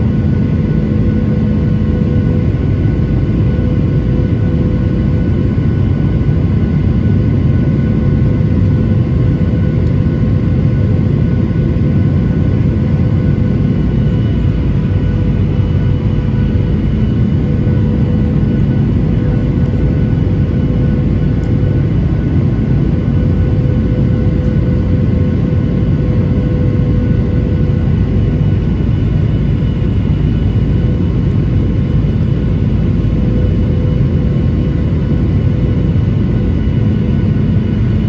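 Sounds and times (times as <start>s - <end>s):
airflow and engine rush: 0.0s - 38.0s
steady whine tones: 0.0s - 38.0s.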